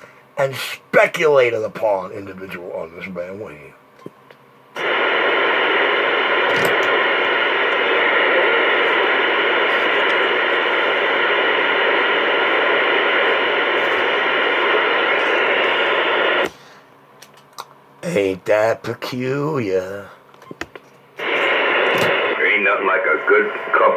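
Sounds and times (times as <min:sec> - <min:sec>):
static hiss: 0:00.1 - 0:16.9, 0:18.0 - 0:23.9.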